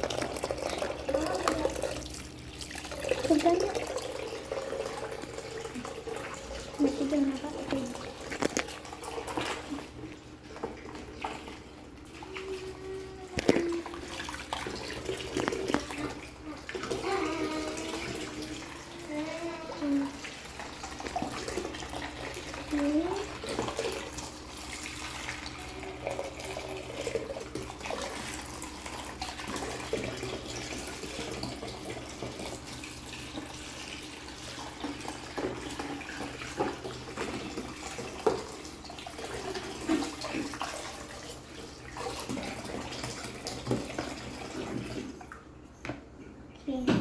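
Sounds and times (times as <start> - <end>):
tap water running into sink: 0.0 - 46.2
small knocks and splashes: 0.0 - 47.0.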